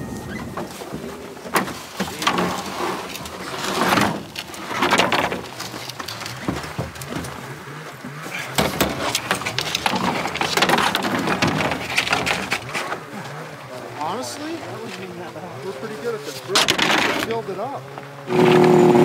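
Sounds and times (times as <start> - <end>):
knocks and clunks: 0.0 - 13.4, 16.3 - 19.0
snowmobile scraping and sliding: 0.0 - 19.0.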